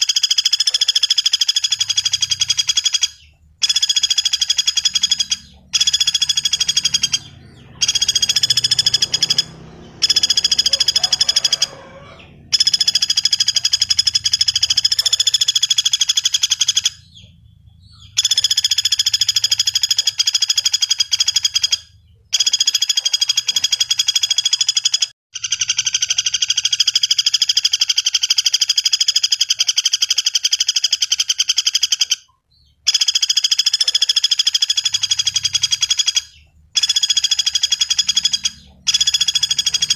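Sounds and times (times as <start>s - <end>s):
woodpecker rattling trill calls: 0.0s - 39.9s.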